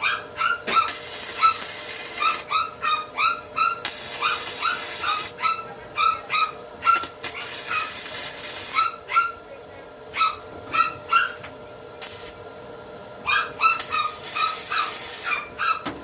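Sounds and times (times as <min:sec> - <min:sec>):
small dog yapping: 0:00.0 - 0:09.4, 0:10.1 - 0:11.4, 0:13.2 - 0:16.0.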